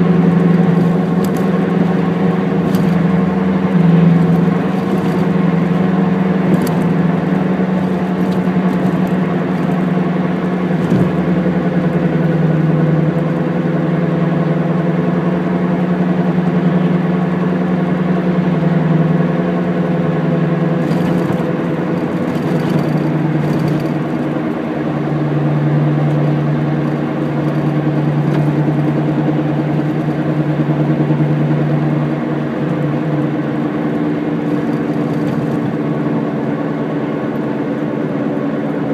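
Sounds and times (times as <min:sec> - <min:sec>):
rhythmic wheel bearing rumble: 0:00.0 - 0:16.5, 0:17.5 - 0:37.4
car engine driving: 0:00.0 - 0:38.9
road noise: 0:00.0 - 0:38.9.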